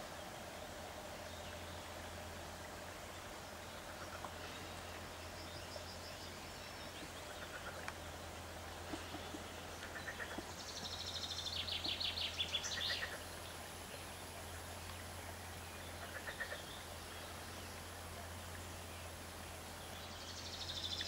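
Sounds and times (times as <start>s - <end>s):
songbird singing: 0.0s - 21.0s
steady low hum: 0.0s - 21.0s.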